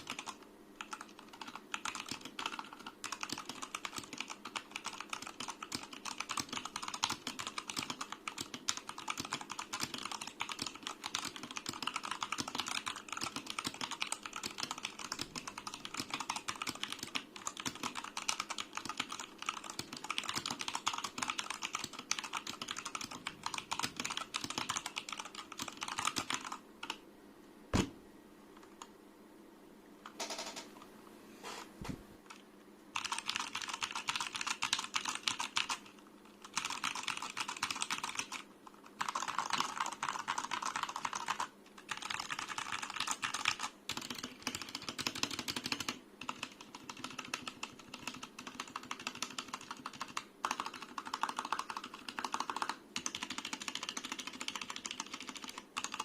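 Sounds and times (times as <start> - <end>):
fast mechanical keyboard typing: 0.0 - 27.0, 30.2 - 30.7, 33.0 - 56.0.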